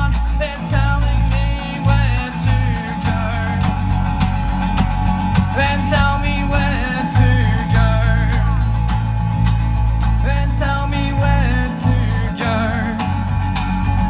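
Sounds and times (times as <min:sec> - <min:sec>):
man singing: 0:00.0 - 0:04.5, 0:05.4 - 0:09.4, 0:10.0 - 0:14.0
guitar accompaniment: 0:00.0 - 0:14.0
sustained bass line: 0:00.0 - 0:14.0.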